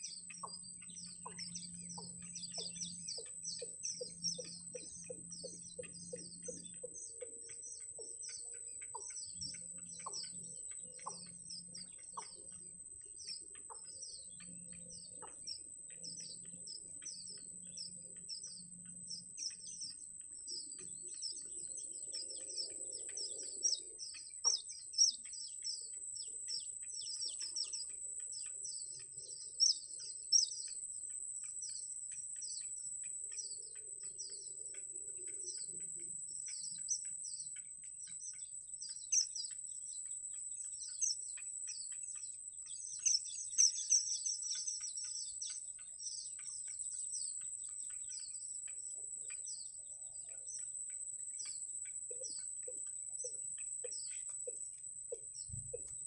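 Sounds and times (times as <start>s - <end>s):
nestling birds peeping: 0.0s - 56.0s.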